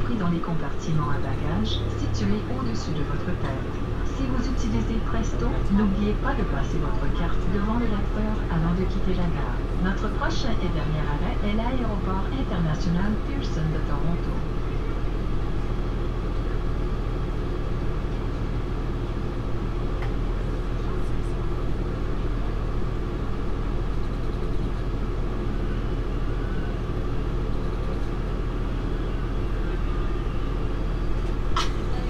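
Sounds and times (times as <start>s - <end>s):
diesel train engine humming: 0.0s - 32.0s.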